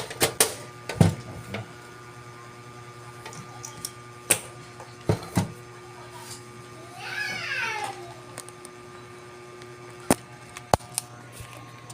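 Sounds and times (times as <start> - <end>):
electrical hum: 0.0 - 11.9.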